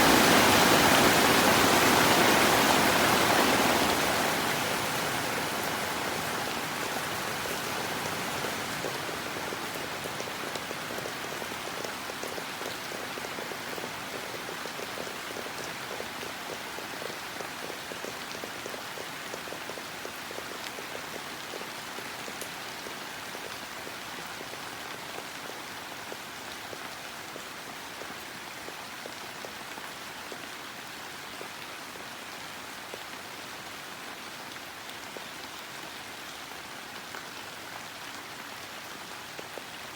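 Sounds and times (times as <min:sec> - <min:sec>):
heavy rain on a plastic roof: 0:00.0 - 0:39.9.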